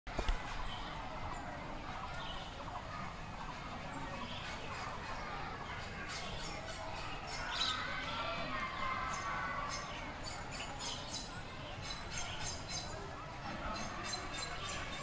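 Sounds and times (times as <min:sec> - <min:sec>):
distant children's voices: 0:00.1 - 0:15.0.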